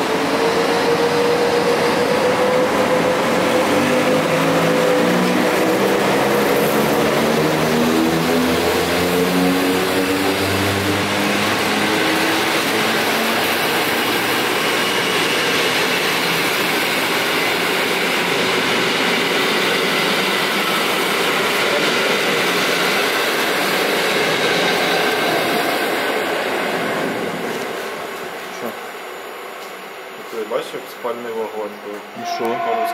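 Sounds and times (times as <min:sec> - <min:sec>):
electric locomotive whine: 0:00.0 - 0:32.9
train wheels rushing on rails: 0:00.0 - 0:32.9.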